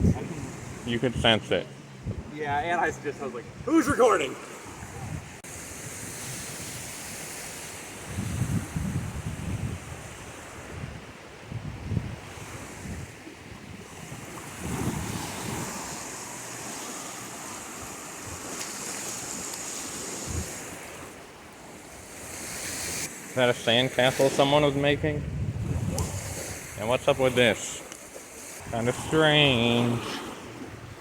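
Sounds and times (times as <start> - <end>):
wind buffeting microphone: 0.0 - 7.2, 7.8 - 23.1, 24.6 - 27.2
ocean waves on a beach: 0.0 - 31.0.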